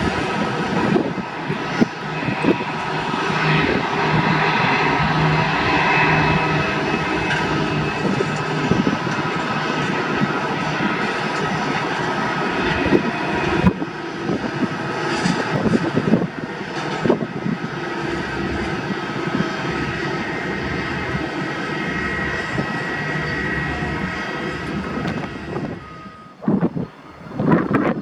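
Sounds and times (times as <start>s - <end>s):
jet engines rushing: 0.0s - 28.0s
thin high whine: 0.0s - 28.0s.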